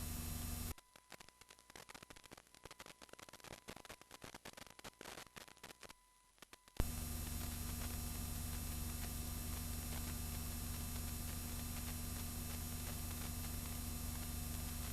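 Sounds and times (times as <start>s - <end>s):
electrical hum and hiss: 0.0s - 5.9s, 6.7s - 14.9s.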